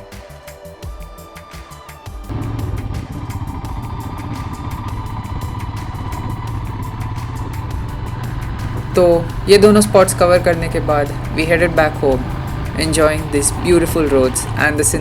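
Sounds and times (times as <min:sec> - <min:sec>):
music: 0:00.0 - 0:15.0
motorcycle engine running: 0:02.2 - 0:15.0.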